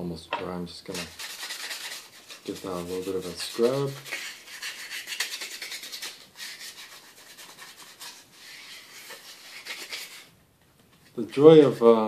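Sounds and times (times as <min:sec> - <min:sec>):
dry scratchy scrubbing: 0:00.9 - 0:10.3, 0:11.2 - 0:12.0.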